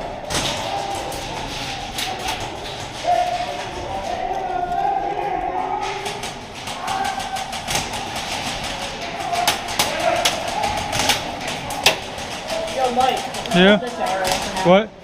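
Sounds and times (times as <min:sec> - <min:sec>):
distant voices echoing in a hall: 0:00.0 - 0:15.0.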